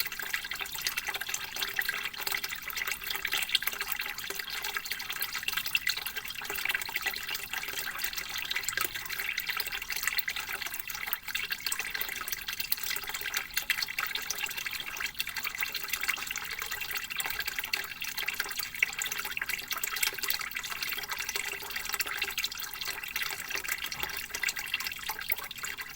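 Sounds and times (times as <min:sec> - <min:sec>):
water trickling from a pipe: 0:00.0 - 0:25.9.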